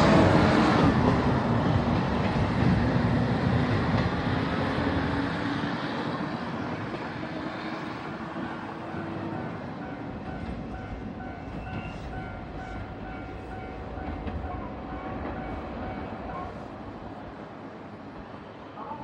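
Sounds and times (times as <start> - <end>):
railcar engine and wheels: 0.0 - 19.0.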